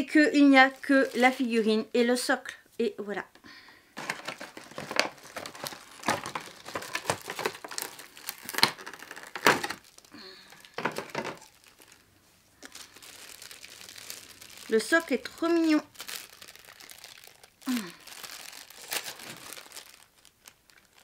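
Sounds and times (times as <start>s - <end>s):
plastic packaging crinkling: 0.4s - 1.7s, 4.0s - 21.0s.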